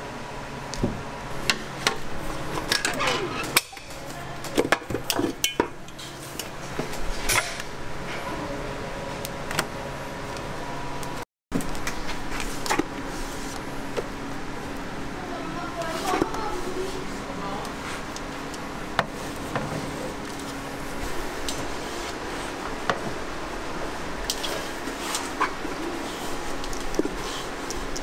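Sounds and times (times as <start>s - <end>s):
kitchen hum: 0.0s - 28.0s.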